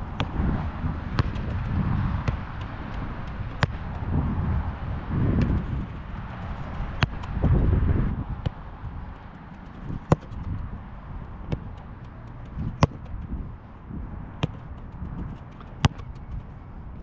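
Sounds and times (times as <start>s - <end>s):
low microphone rumble: 0.0s - 17.0s
football kicks and thuds: 0.1s - 4.3s, 5.2s - 10.8s, 11.4s - 13.4s, 14.3s - 16.4s.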